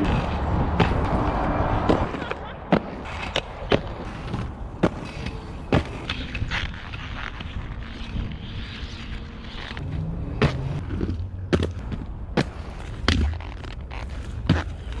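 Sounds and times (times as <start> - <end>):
skate wheels rolling on asphalt: 0.0 - 15.0
skates clacking on pavement: 0.0 - 15.0.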